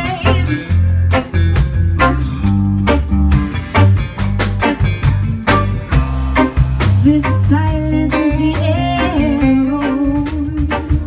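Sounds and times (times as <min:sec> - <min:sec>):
drum kit steady beat: 0:00.0 - 0:11.0
electric bass: 0:00.0 - 0:11.0
electric guitars: 0:00.0 - 0:11.0
keyboards: 0:00.0 - 0:11.0.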